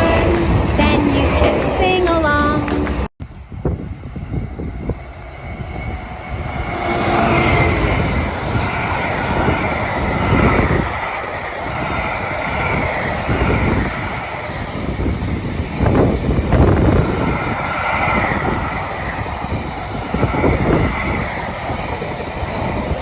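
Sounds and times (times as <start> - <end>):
train rumbling past: 0.0 - 23.0
wind buffeting microphone: 0.0 - 23.0.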